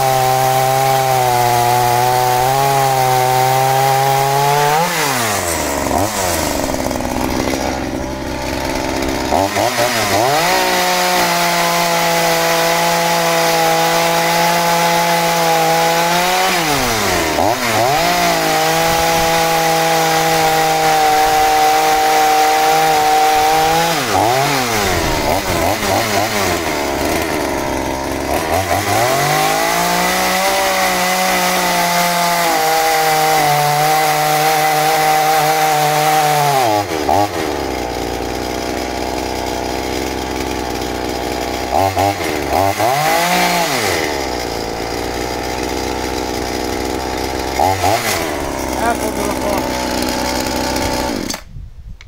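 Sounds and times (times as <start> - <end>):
chainsaw cutting wood: 0.0 - 51.6.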